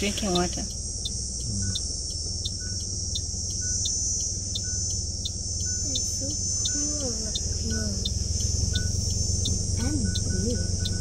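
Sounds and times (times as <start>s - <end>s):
high repeating tick: 0.0s - 11.0s
insects buzzing: 0.0s - 11.0s
low hum: 0.0s - 11.0s.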